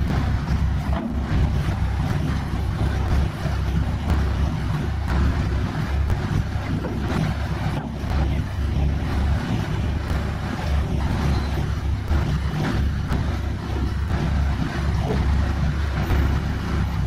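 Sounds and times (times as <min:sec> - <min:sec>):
piling rig hydraulics rumbling: 0:00.0 - 0:17.0.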